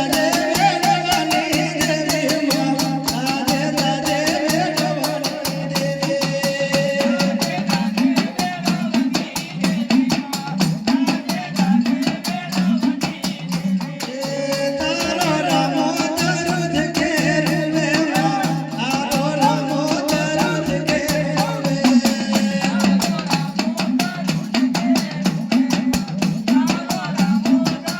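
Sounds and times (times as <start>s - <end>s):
drum and rattling percussion: 0.0s - 27.9s.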